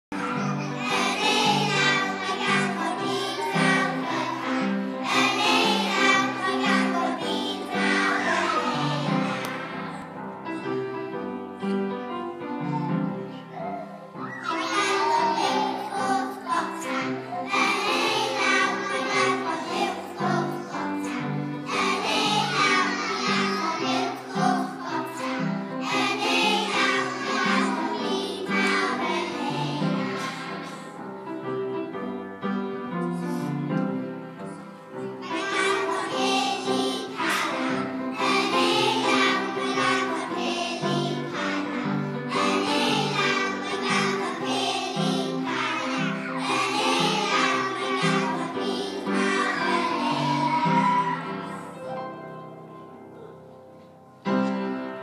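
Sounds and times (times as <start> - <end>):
children singing in unison: 0.1 - 10.2, 12.4 - 31.3, 35.2 - 51.8.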